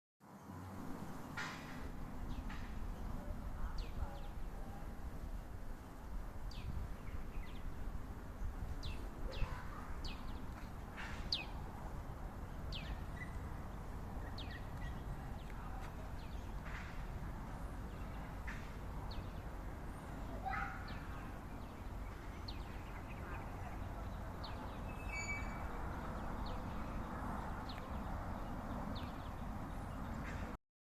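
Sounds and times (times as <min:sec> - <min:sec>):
birds chirping: 0:02.1 - 0:30.6.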